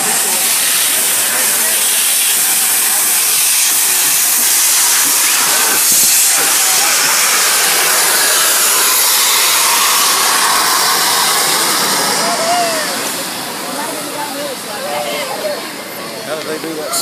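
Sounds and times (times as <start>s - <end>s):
steam locomotive venting steam: 0.0s - 17.0s.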